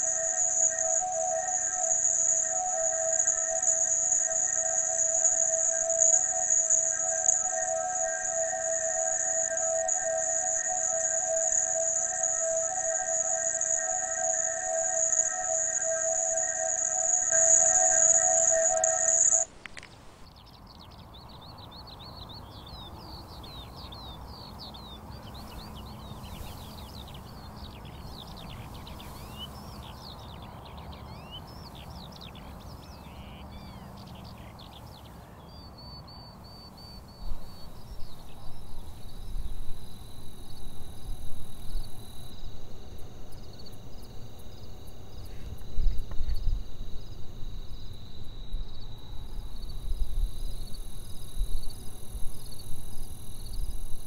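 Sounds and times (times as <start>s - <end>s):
pulsing high insect trill: 0.0s - 19.5s, 23.5s - 35.6s, 36.2s - 54.0s
insects chirping: 0.0s - 54.0s.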